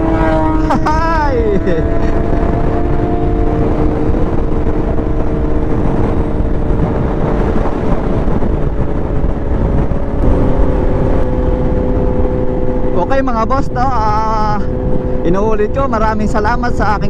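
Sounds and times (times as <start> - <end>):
motorcycle engine drone: 0.0 - 17.0
wind rush on microphone: 0.0 - 17.0.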